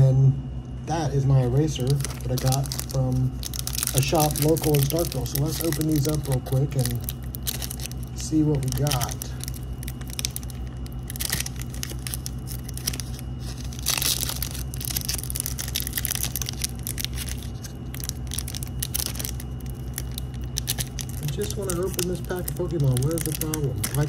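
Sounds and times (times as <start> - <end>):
foil wrapper crinkling: 1.7 - 24.0
wrapper tearing rustle: 1.7 - 24.0.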